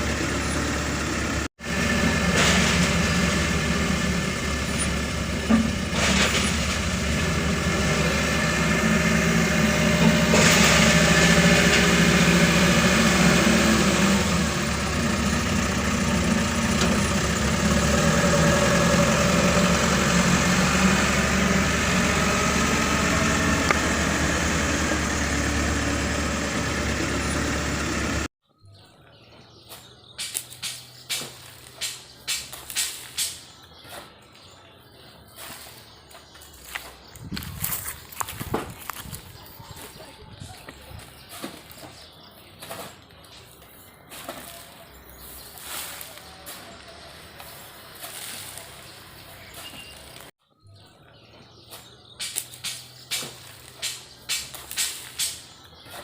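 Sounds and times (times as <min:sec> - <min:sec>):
earthmoving machine diesel engine: 0:00.0 - 0:28.3, 0:29.3 - 0:56.0.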